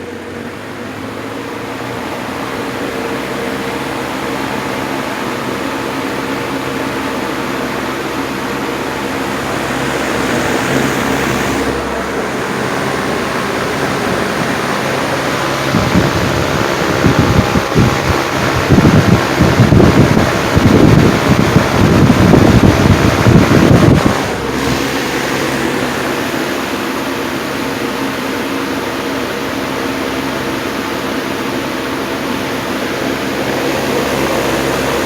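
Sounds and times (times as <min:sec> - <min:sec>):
fan motor hum with rushing air: 0:00.0 - 0:35.0.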